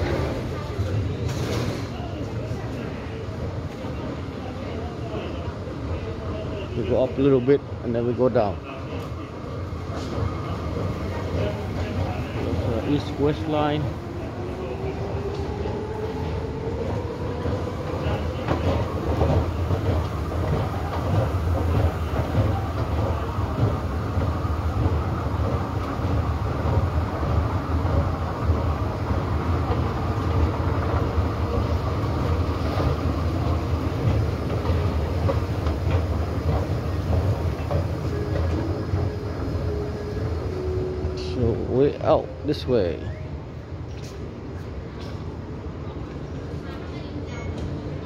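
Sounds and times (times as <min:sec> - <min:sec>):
metro station rumble: 0:00.0 - 0:48.0.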